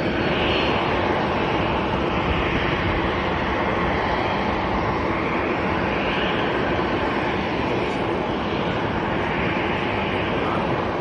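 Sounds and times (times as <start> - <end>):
jet engines taxiing: 0.0 - 11.0.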